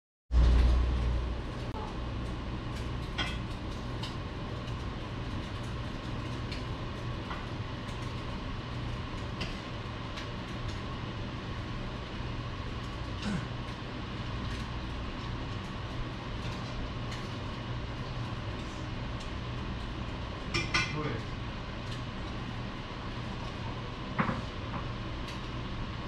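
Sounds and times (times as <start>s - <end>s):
city background rumble: 0.3s - 26.0s.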